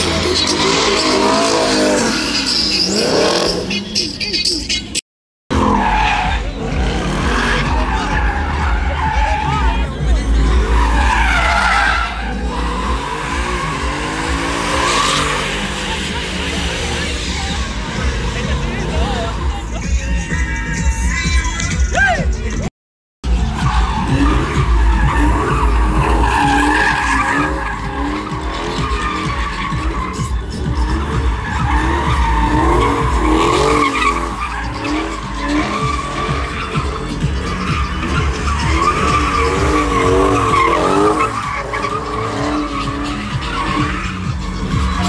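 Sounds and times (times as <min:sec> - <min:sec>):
car engine revving: 0:00.0 - 0:04.3, 0:05.5 - 0:21.8, 0:23.2 - 0:45.0
tyres squealing: 0:00.0 - 0:22.5, 0:23.3 - 0:45.0.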